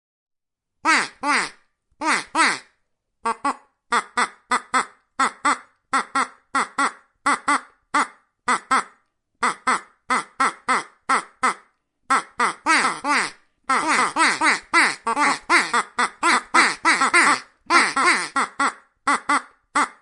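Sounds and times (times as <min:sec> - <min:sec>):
ducks quacking: 0:00.9 - 0:02.7, 0:03.3 - 0:20.0.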